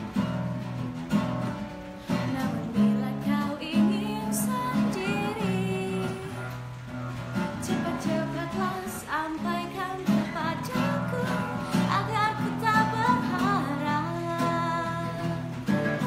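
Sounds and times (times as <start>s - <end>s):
acoustic guitar strumming chords: 0.0s - 16.0s
woman singing: 2.0s - 6.8s, 7.4s - 16.0s.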